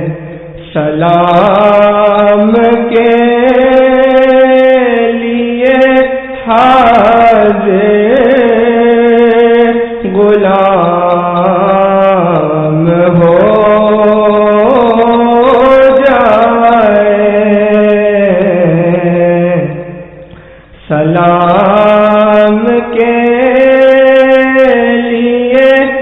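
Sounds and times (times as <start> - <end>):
solo voice singing slow melody: 0.0 - 26.0.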